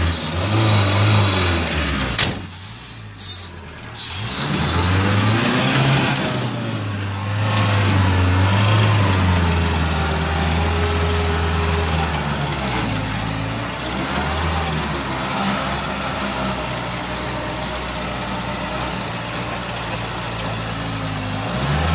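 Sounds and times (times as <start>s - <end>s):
diesel engine revving: 0.0s - 21.9s.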